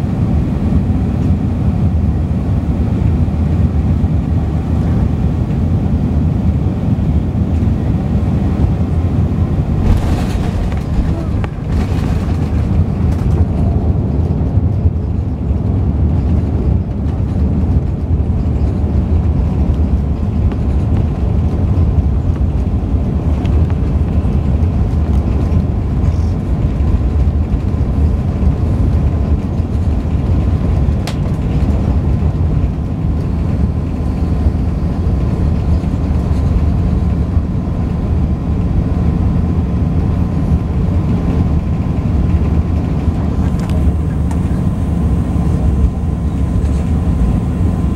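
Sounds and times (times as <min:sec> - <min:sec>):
aircraft cabin rumble: 0:00.0 - 0:47.9.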